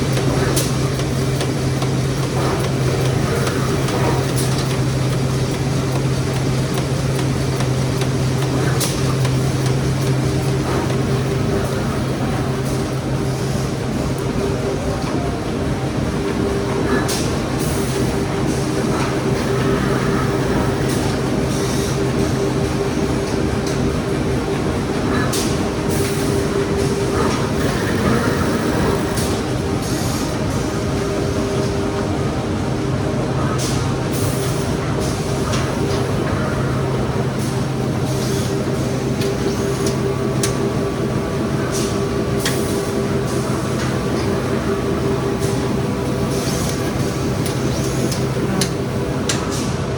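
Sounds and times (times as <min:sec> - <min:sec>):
printing machine mechanical drone: 0:00.0 - 0:49.9.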